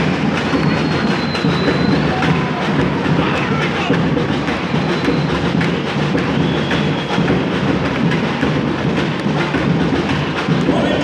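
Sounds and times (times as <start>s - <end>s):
music with drums and percussion: 0.0s - 11.0s.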